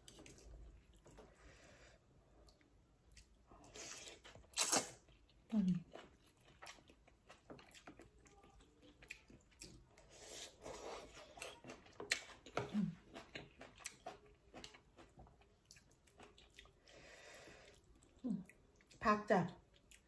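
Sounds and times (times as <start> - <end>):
person chewing: 0.0 - 1.6, 2.4 - 19.0, 19.7 - 20.0.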